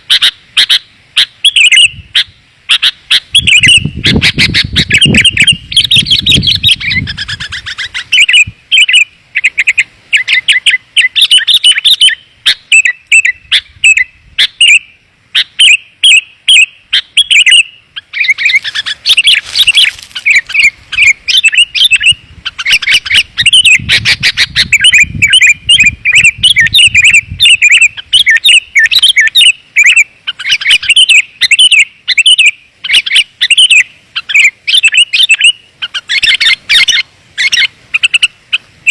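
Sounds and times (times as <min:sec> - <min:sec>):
bulbuls chirping rapidly: 0:00.0 - 0:38.9.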